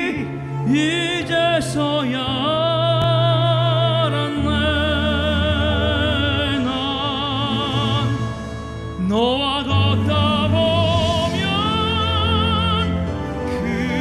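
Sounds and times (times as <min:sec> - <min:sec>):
instrumental accompaniment: 0:00.0 - 0:14.0
men singing operatically: 0:00.0 - 0:14.0.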